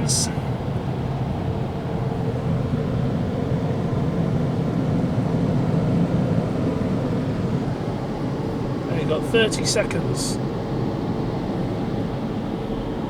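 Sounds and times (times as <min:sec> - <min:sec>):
faint steady hum: 0:00.0 - 0:12.1
car wash blowers rushing air: 0:00.0 - 0:13.0.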